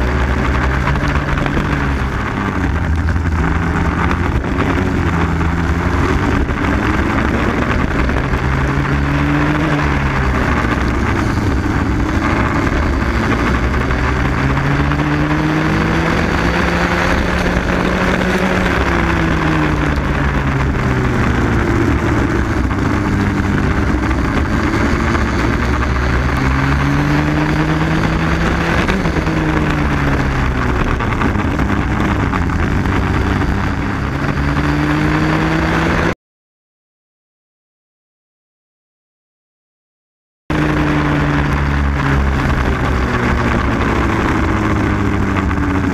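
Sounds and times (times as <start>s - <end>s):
kart engine racing: 0.0s - 36.2s, 40.5s - 45.9s.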